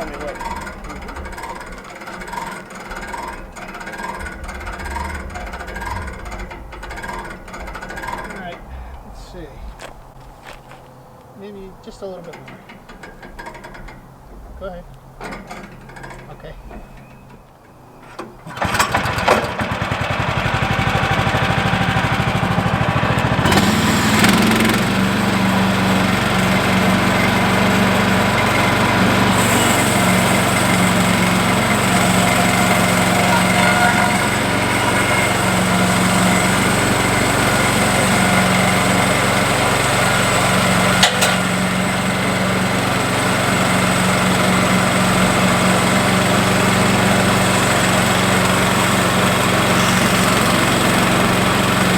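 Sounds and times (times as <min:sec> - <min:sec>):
small gasoline engine running: 0:00.0 - 0:09.5, 0:18.4 - 0:51.9.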